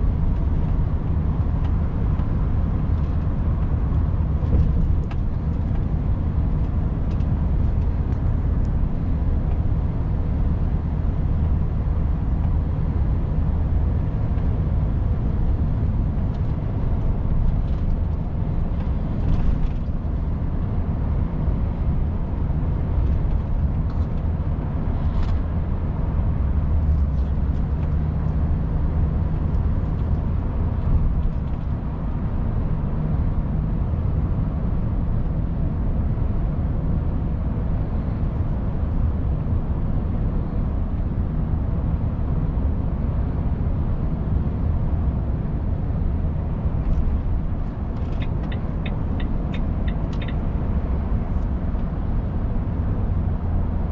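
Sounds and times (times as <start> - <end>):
road noise: 0.0 - 53.9.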